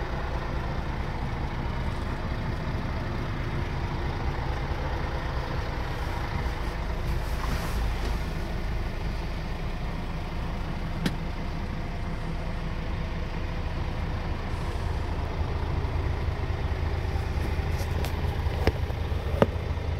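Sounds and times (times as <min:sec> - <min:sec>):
diesel truck engine idling: 0:00.0 - 0:19.9.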